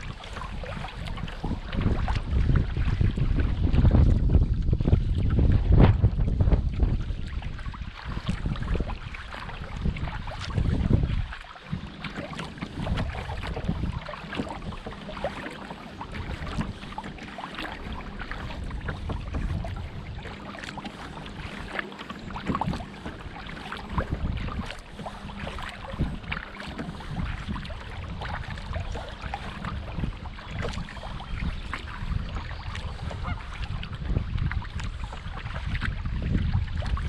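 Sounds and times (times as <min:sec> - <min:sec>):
water splashing around kayak: 0:00.0 - 0:37.0
wind buffeting microphone: 0:00.0 - 0:37.0.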